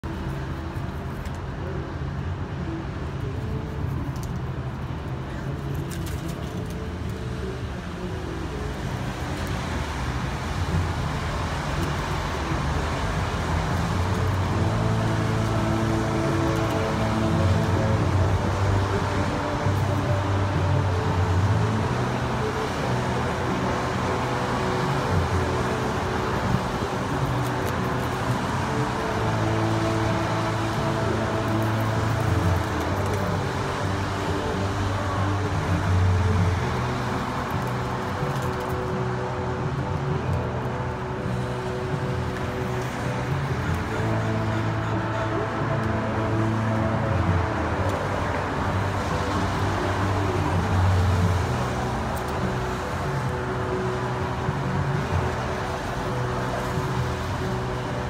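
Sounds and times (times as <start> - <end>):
faint background music: 0.0 - 58.0
rain: 0.0 - 58.0
road traffic rumble: 0.0 - 58.0.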